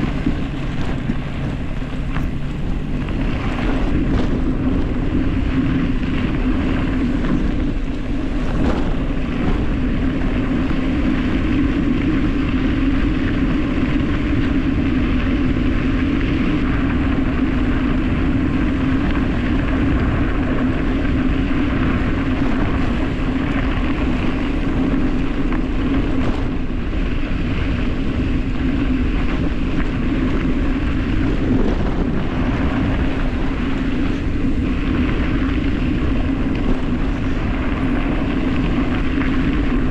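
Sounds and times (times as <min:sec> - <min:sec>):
tyres rumbling on gravel: 0:00.0 - 0:39.9
wind rushing over microphone: 0:00.0 - 0:39.9.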